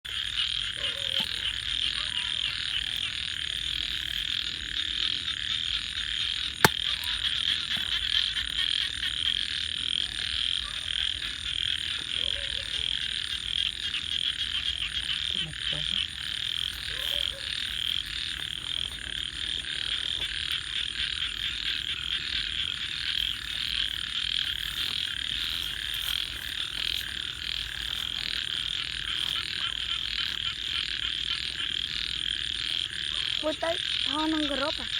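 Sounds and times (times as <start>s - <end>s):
chorus of frogs calling: 0.0s - 34.9s.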